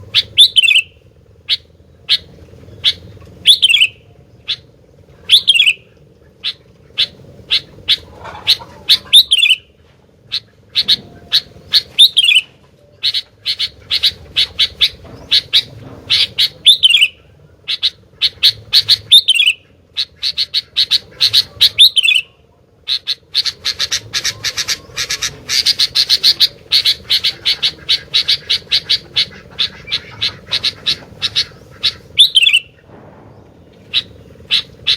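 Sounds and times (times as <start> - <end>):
bulbul chirping song: 0.0 - 34.9.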